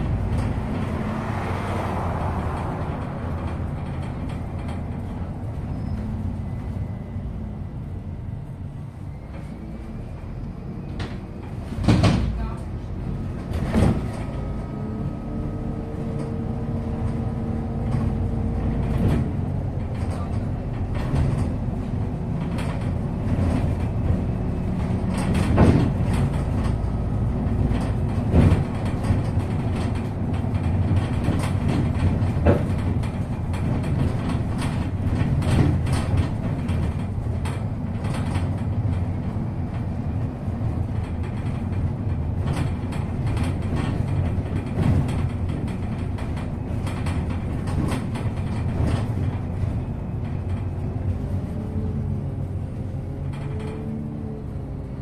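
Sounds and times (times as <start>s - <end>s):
bus body rattling: 0.0s - 55.0s
bus engine running: 0.0s - 55.0s.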